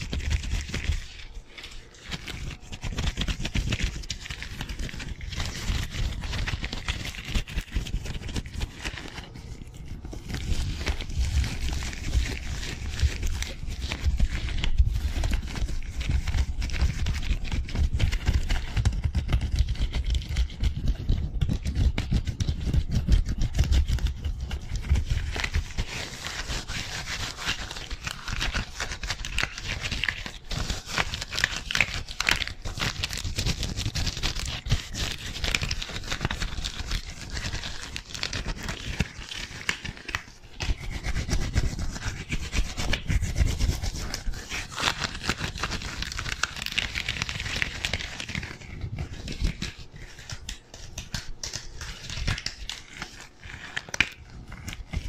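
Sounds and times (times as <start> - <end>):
gloved hands rubbing: 0.0 - 55.0.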